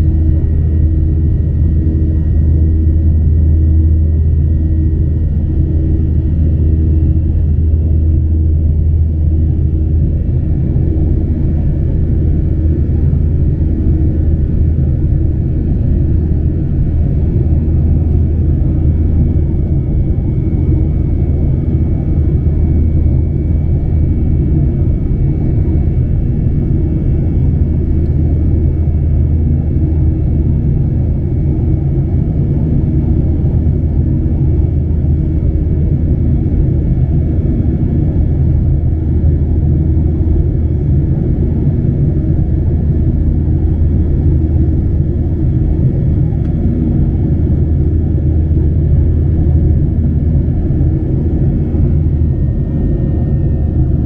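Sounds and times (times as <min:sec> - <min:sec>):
aircraft cabin rumble: 0:00.0 - 0:54.0
faint high whine: 0:00.0 - 0:54.0.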